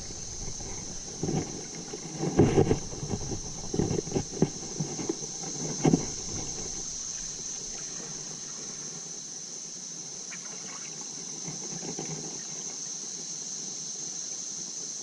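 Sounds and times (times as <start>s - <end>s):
water lapping around a kayak: 0.0s - 14.8s
steady high-pitched hiss: 0.0s - 15.0s.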